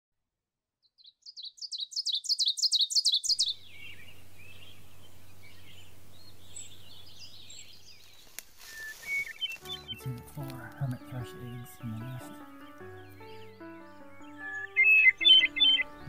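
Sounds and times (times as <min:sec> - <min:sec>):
faint birdsong: 0:00.8 - 0:16.0
songbird singing high notes: 0:01.2 - 0:16.0.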